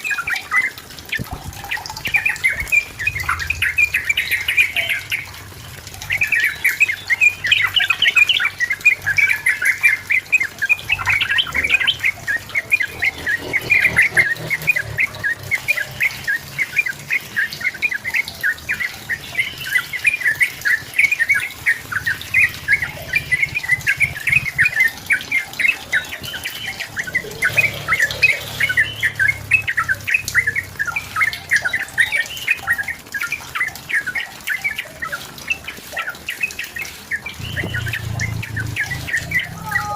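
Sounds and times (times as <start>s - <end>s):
bird song chatter: 0.0s - 39.9s.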